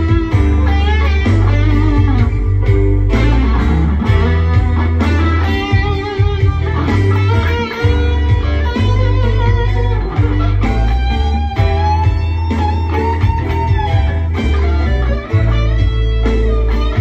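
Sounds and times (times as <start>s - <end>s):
backing track: 0.0s - 17.0s
electric guitar lead with string bends: 0.0s - 17.0s
sustained bass line: 0.0s - 17.0s.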